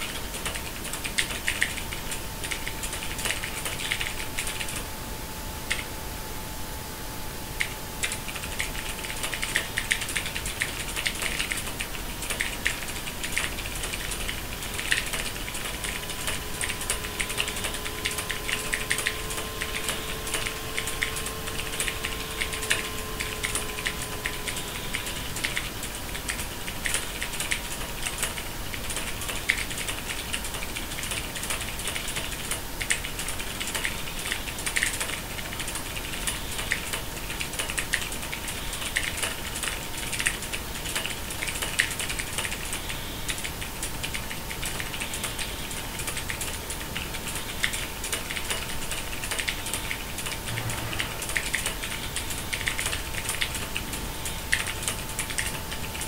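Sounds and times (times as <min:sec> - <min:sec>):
fast typing on mechanical keyboard: 0:00.0 - 0:04.8, 0:07.6 - 0:56.0.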